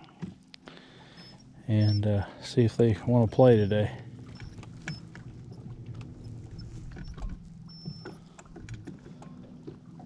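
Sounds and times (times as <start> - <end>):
waves lapping against hull: 0.0 - 10.0.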